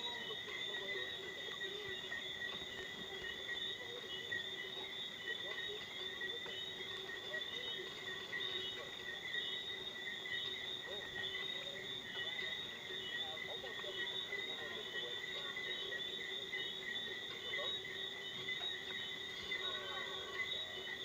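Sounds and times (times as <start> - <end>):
crickets trilling: 0.0 - 21.0
insect chirps: 0.0 - 21.0.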